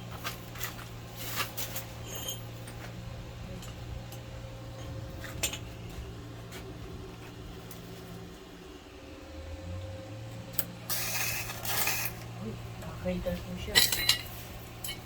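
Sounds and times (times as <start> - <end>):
welder electrical hum: 0.0 - 15.0.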